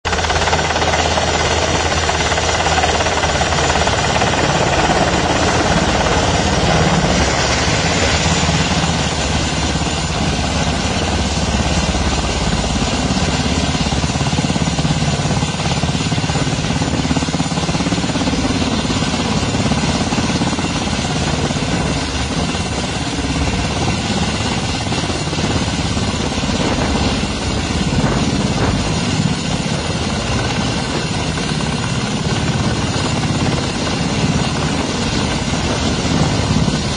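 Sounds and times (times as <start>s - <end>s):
helicopter rotor chopping: 0.0s - 36.9s
turbine engine whine: 0.1s - 36.9s.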